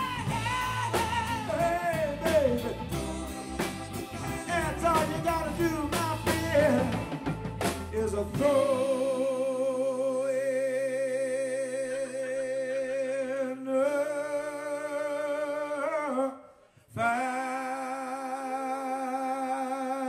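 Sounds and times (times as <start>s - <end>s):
person singing long notes: 0.0s - 7.3s, 7.9s - 20.0s.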